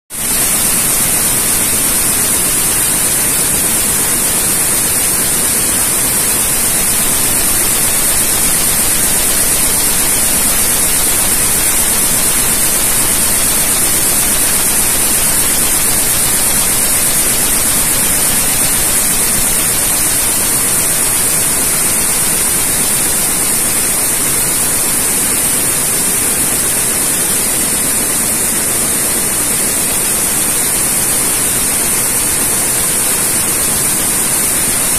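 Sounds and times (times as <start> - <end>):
weaving loom running: 0.1 - 34.9.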